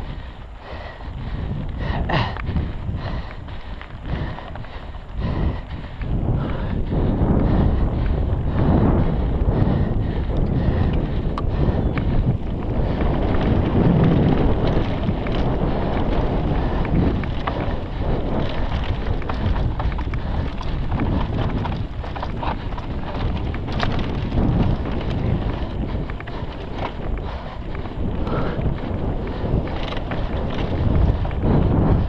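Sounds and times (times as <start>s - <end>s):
bike clicks and rattles: 0.0s - 32.0s
bike tyres rumbling on dirt: 0.0s - 32.0s
wind buffeting microphone: 0.0s - 32.0s.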